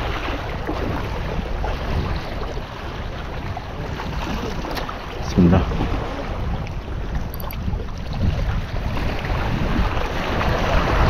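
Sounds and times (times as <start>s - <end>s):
sea surf on shore: 0.0s - 11.0s
wind buffeting microphone: 0.0s - 11.0s.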